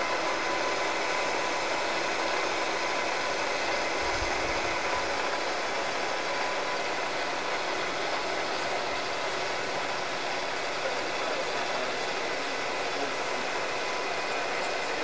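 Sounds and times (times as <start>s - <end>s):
fan-like machinery noise: 0.0s - 15.0s.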